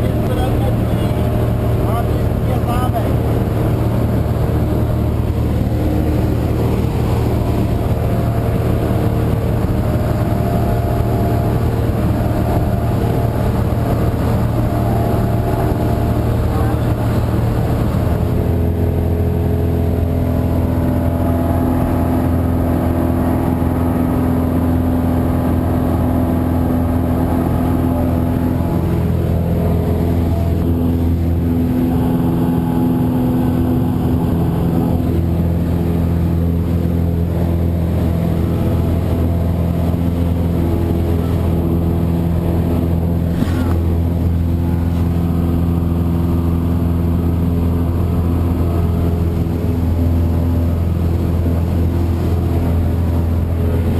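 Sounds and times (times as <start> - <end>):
propeller plane engine droning: 0.0 - 53.9.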